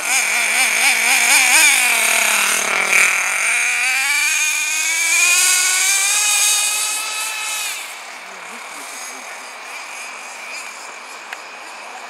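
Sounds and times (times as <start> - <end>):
rc truck engine revving: 0.0 - 11.7.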